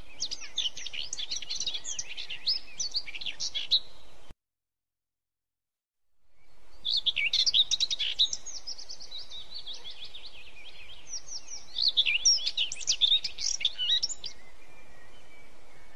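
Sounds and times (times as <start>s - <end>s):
birds chirping: 0.0s - 4.3s, 6.4s - 15.9s.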